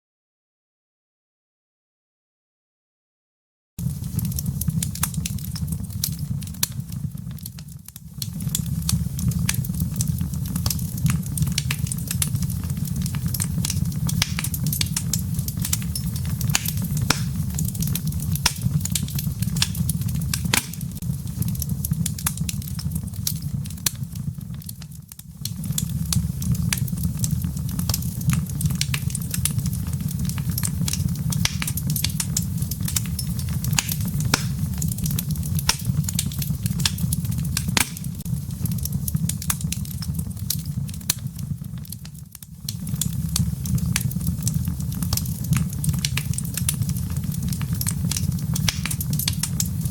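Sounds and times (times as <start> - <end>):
embers rumbling: 3.8 - 49.9
fire crackling and popping: 3.8 - 49.9.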